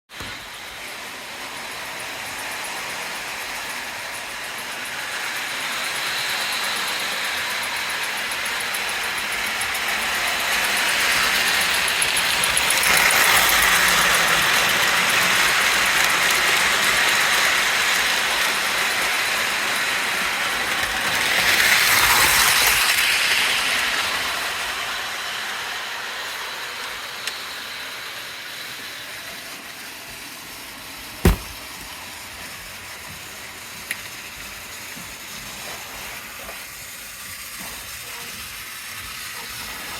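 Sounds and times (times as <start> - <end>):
model train rolling on track: 0.2 - 31.0, 32.4 - 39.9.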